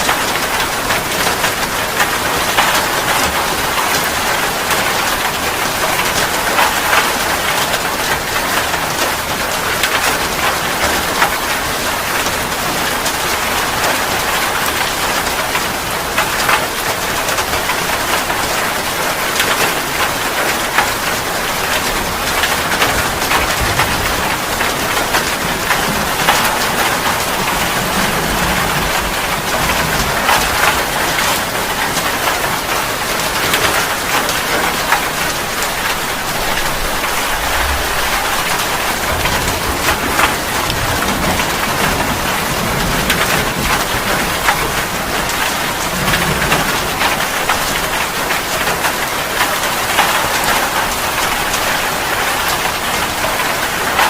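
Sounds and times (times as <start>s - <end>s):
heavy rain on hard surface: 0.0s - 54.0s.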